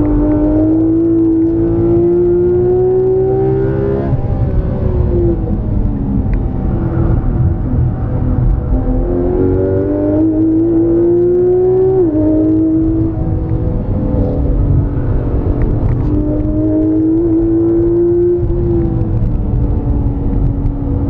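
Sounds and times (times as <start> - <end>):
car engine accelerating: 0.0 - 21.0
road and tyre rumble: 0.0 - 21.0.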